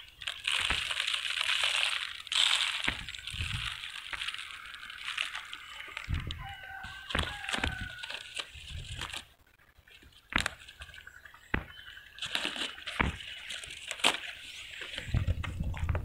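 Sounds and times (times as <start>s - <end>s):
palm fronds rustling and crackling: 0.0s - 16.0s.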